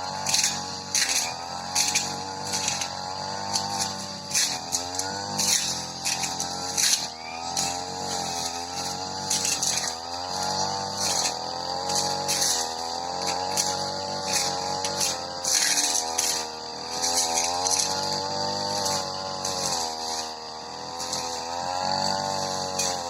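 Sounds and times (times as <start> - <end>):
brush cutter running at high speed: 0.0 - 23.0
grass stems hitting blade: 0.2 - 2.9, 3.5 - 10.0, 10.6 - 20.2.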